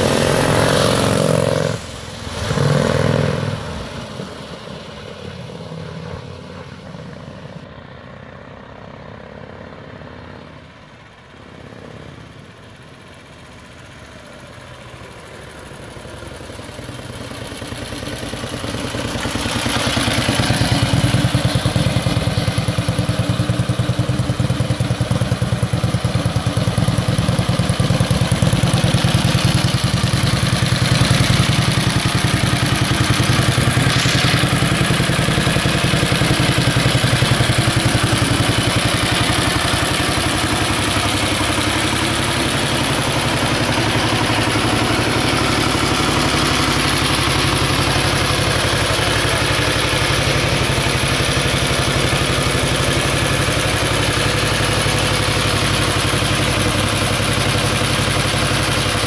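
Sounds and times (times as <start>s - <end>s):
motorcycle engine running: 9.9s - 59.0s.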